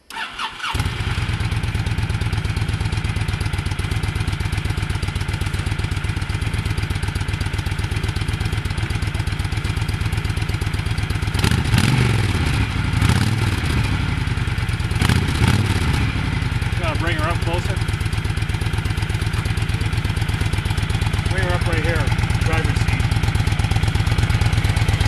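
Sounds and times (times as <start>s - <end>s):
motorcycle engine idling: 0.6s - 25.0s.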